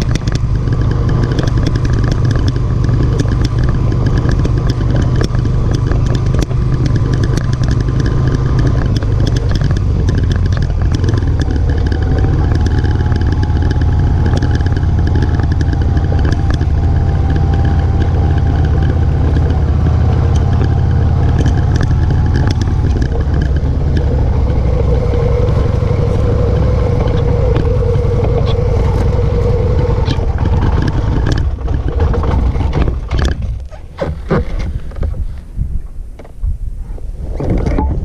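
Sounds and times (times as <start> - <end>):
motorcycle engine running: 0.0 - 34.2
rattles and knocks: 0.0 - 35.2, 37.3 - 38.0.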